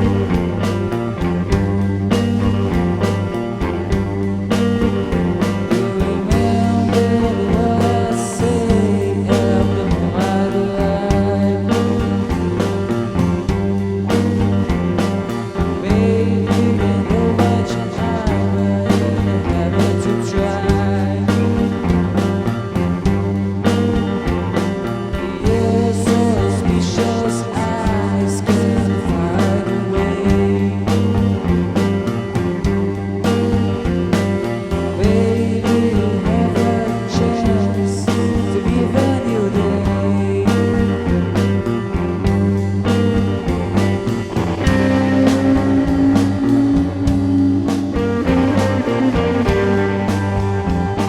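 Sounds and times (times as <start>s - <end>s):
bass guitar: 0.0s - 51.0s
electric guitar: 0.0s - 51.0s
psychedelic rock band playing: 0.0s - 51.0s
steady drum beat: 0.0s - 51.0s.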